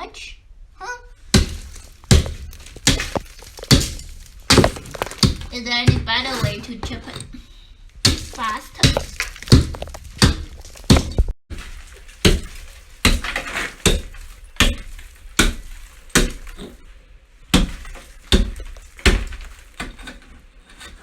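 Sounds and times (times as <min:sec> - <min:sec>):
hand tool chipping ice: 0:01.4 - 0:07.1, 0:08.0 - 0:16.8, 0:17.6 - 0:21.0.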